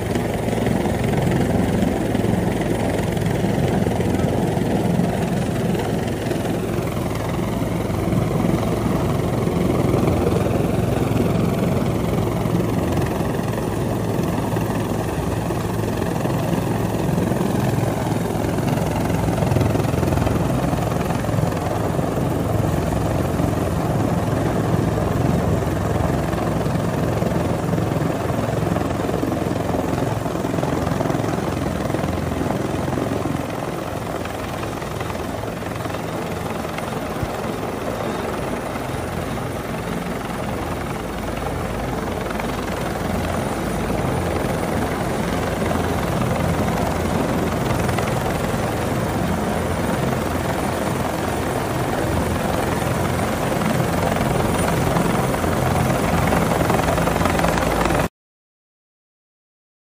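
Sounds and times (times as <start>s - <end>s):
helicopter hovering overhead: 0.0s - 58.1s.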